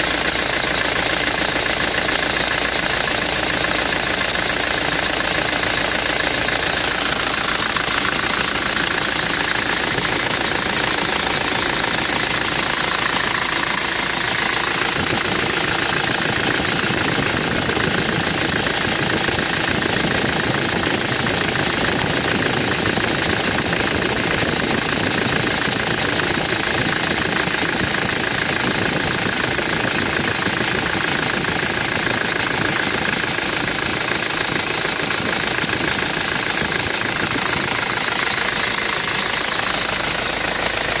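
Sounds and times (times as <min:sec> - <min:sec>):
pickup engine idling: 0:00.0 - 0:41.0.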